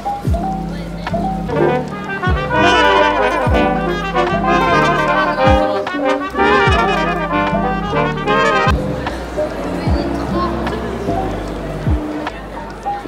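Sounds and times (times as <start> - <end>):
short low thumps: 1.1 - 12.4
brass band playing: 1.4 - 12.4.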